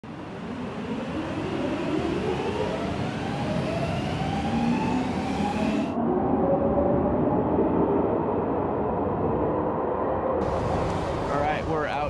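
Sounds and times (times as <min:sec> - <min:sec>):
vehicle rumble with rising whine: 0:00.0 - 0:12.0.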